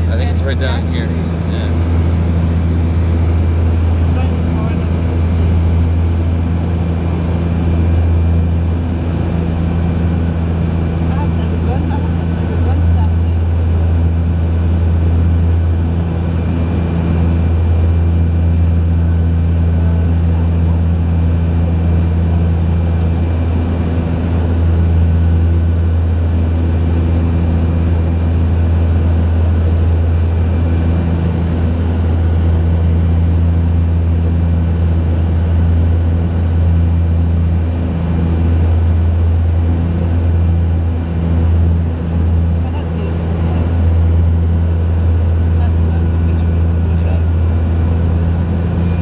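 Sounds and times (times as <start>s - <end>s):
turboprop engines droning: 0.0s - 49.0s.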